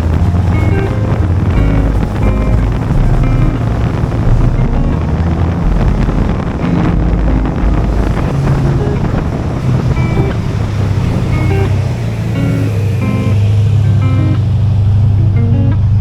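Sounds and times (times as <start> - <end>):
background music: 0.0 - 14.4
car engine and exhaust drone: 0.0 - 16.0
wind buffeting microphone: 0.0 - 16.0.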